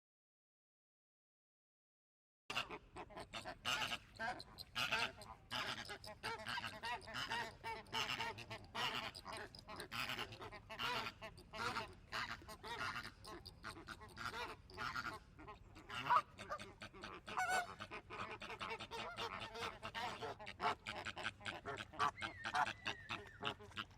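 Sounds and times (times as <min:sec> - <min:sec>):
flock of birds calling: 0:03.4 - 0:18.0, 0:18.6 - 0:23.9.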